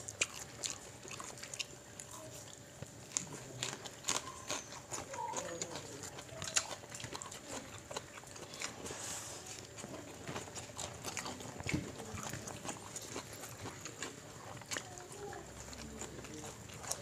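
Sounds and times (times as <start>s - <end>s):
chewing and lip-smacking: 0.0s - 17.0s.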